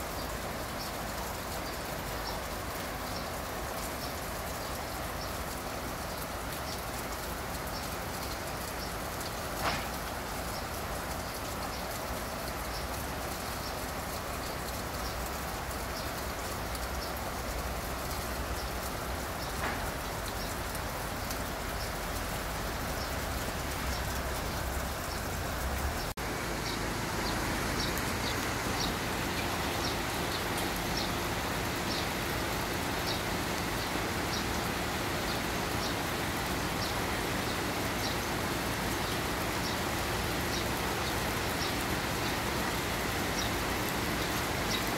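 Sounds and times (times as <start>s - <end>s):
rain on wet paving stones: 0.0s - 44.9s.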